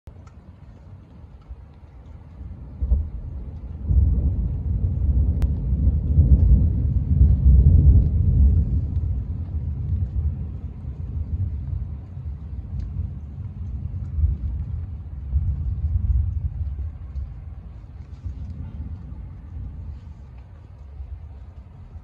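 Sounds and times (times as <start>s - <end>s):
rolling thunder: 2.1s - 22.0s.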